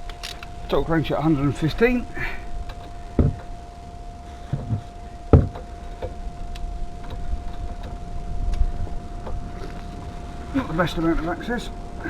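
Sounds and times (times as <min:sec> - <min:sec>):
faint steady whine: 0:00.0 - 0:12.0.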